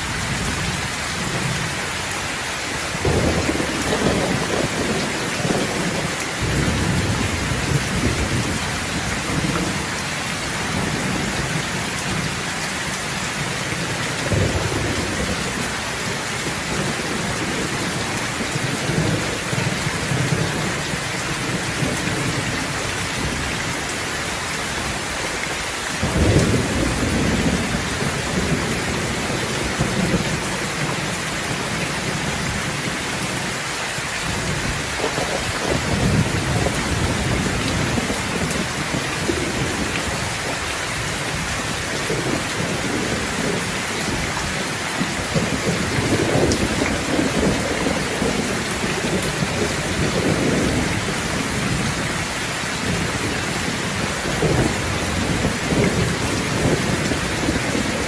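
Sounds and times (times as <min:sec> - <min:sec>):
heavy rain falling: 0:00.0 - 0:58.0
thunder rumbling: 0:02.8 - 0:33.6, 0:34.2 - 0:58.0.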